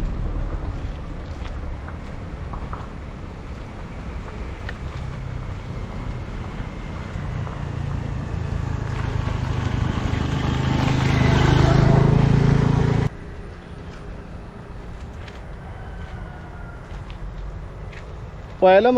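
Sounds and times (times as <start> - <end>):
road and wind noise: 0.0 - 18.9
vehicle engine humming: 0.0 - 18.9.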